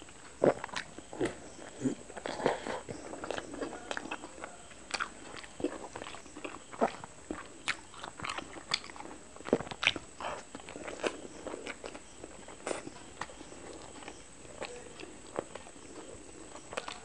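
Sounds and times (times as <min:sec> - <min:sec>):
close chewing clicks and smacks: 0:00.0 - 0:17.0.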